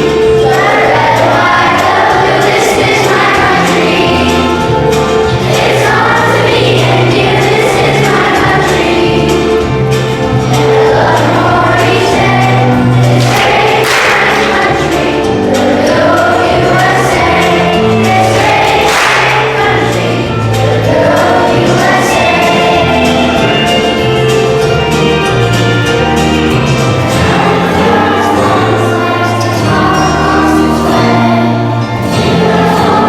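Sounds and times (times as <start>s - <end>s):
choir singing: 0.0s - 33.0s
instrumental accompaniment: 0.0s - 33.0s.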